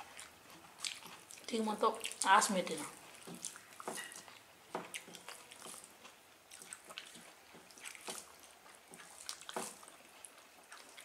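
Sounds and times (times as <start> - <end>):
chewing and lip smacks: 0.0 - 11.0.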